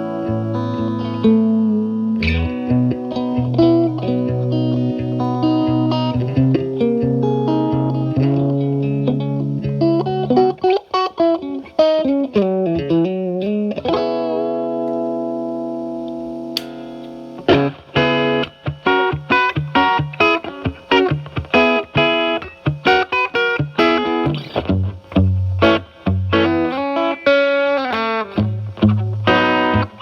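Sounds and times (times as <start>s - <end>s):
overdriven electric guitar: 0.0s - 30.0s.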